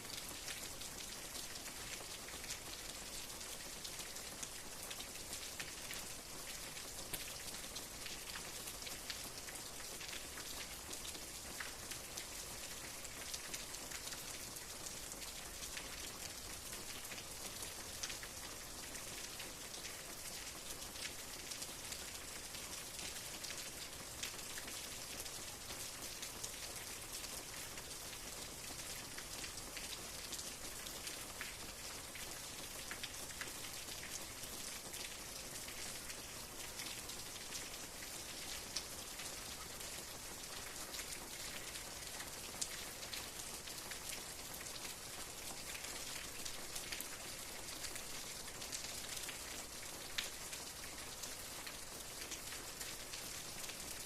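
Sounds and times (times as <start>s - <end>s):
raindrops ticking on a surface: 0.0s - 54.0s
steady rain: 0.0s - 54.0s.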